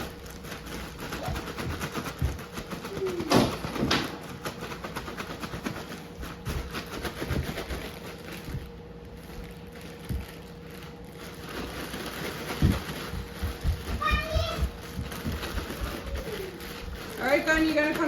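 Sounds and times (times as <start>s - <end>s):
cereal rattling: 0.0s - 18.0s
plastic zip bag rustling: 0.0s - 18.0s.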